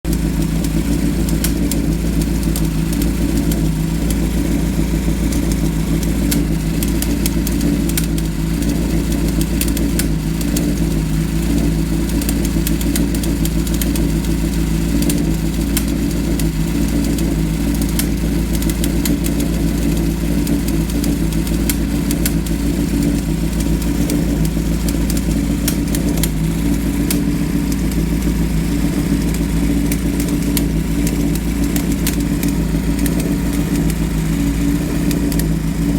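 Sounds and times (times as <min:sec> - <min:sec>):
irregular ticking from engine: 0:00.0 - 0:35.9
motorcycle engine idling: 0:00.0 - 0:35.9.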